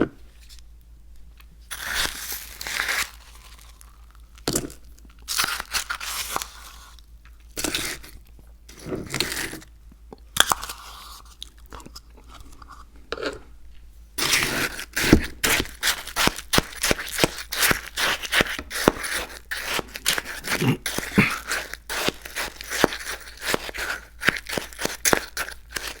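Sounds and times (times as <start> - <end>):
chewing crunchy food: 1.7 - 13.6, 14.2 - 26.0.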